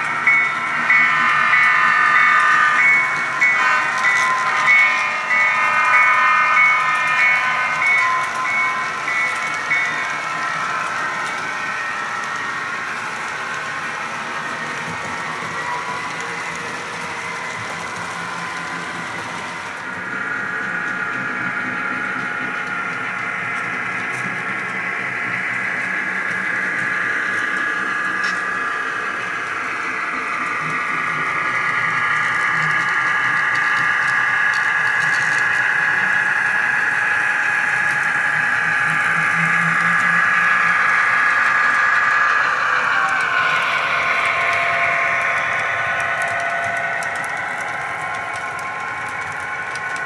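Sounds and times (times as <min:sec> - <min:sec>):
model train mechanical hum: 0:00.0 - 0:50.0.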